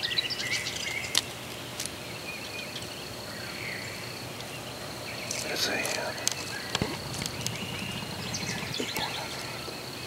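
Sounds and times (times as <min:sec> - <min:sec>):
high insect trill: 0:00.0 - 0:10.0
songbirds chirping: 0:00.0 - 0:10.0.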